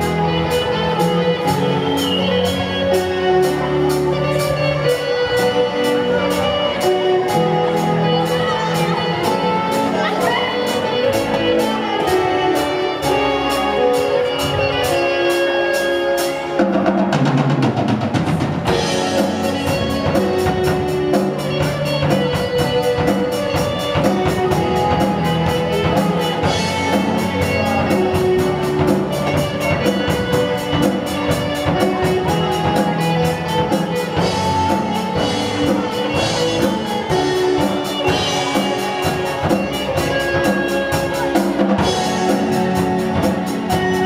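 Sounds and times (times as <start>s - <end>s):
rock band playing: 0.0s - 44.0s.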